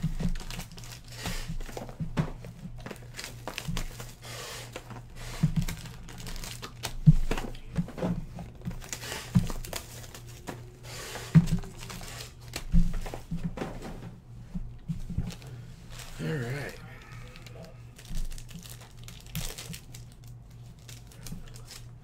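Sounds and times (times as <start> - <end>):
plastic wrap crinkling and tearing: 0.0 - 13.1, 15.2 - 22.0
low steady hum: 0.0 - 22.0.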